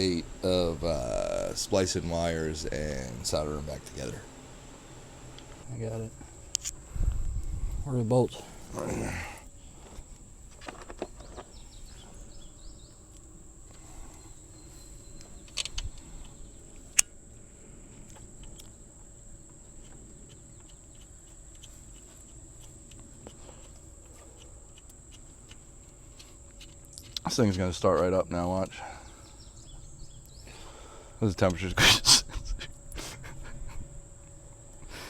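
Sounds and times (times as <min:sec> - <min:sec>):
high insect drone: 0:00.0 - 0:35.0.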